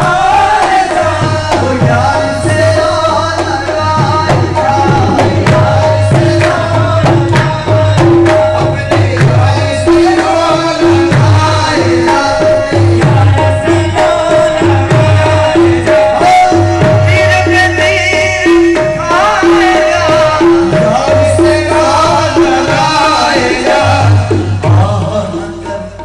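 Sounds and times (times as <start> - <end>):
harmonium melodic phrase: 0.0 - 26.0
tabla rhythm: 0.0 - 26.0.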